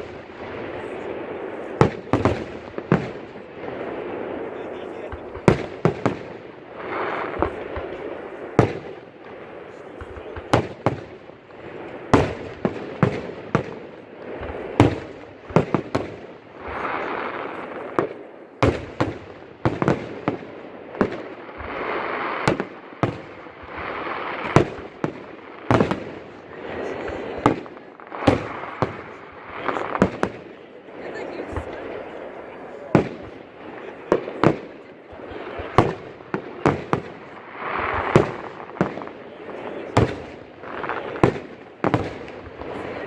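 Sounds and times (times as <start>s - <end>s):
fireworks bangs: 0.0s - 43.0s
fireworks crackling: 0.0s - 43.0s.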